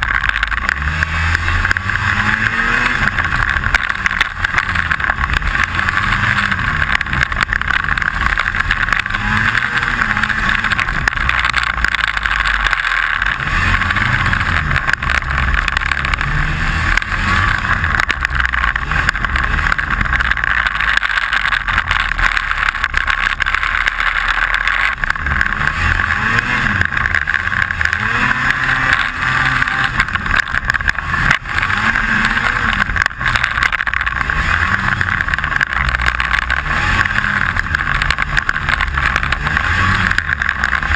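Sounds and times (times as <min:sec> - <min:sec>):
constant rattle: 0:00.0 - 0:40.9
snowmobile engine revving: 0:00.0 - 0:40.9.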